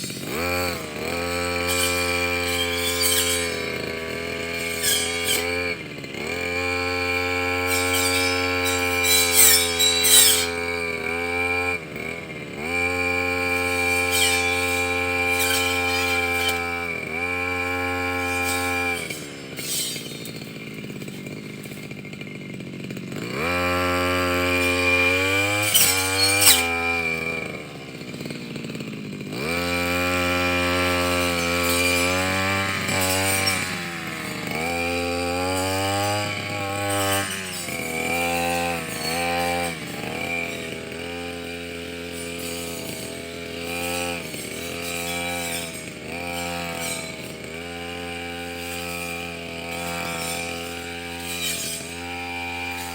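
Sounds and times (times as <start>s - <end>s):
brush cutter engine revving: 0.0s - 52.9s.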